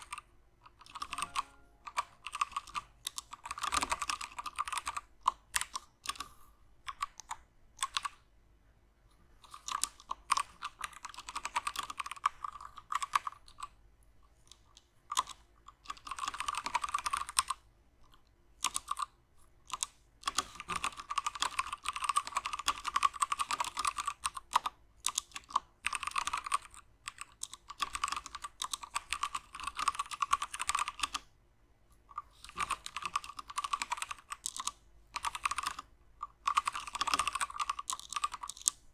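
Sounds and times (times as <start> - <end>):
mechanical keyboard typing: 0.0 - 6.2, 6.9 - 8.2, 9.5 - 13.7, 14.5 - 17.6, 18.6 - 19.1, 19.7 - 31.3, 32.1 - 38.9.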